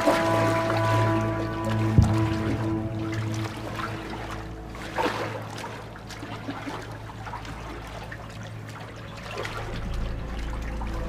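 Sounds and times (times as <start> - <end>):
low steady hum: 0.0 - 11.0
water splashing from wading: 0.0 - 11.0.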